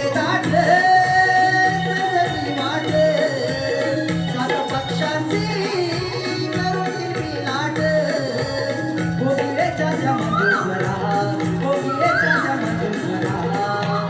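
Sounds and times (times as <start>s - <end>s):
person singing folk song: 0.0s - 14.0s.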